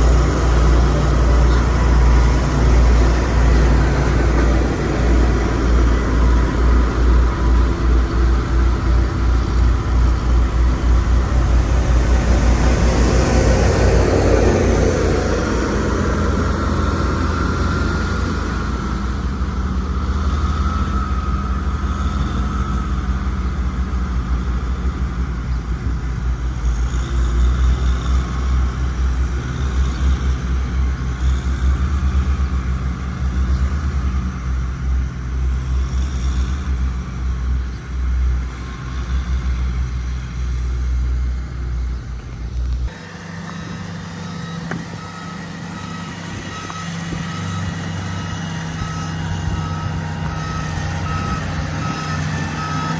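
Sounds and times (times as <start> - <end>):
motor grader engine rumbling: 0.0 - 52.9.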